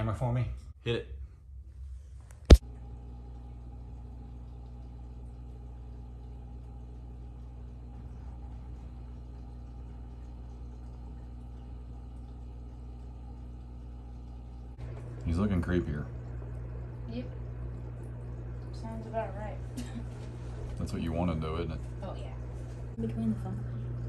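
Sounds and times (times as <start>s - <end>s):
aquarium pump humming: 0.0s - 24.0s.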